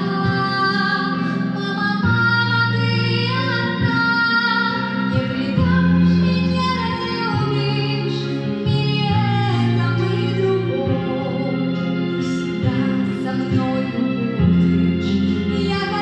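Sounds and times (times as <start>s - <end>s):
amplified backing track: 0.0s - 16.0s
woman singing into microphone: 0.0s - 16.0s.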